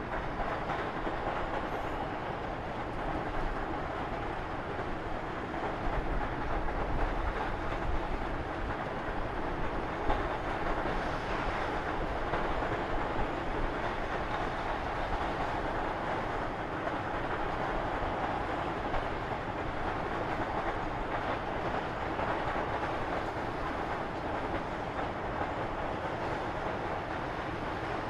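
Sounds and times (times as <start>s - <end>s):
railway wagons rolling on track: 0.0s - 28.0s.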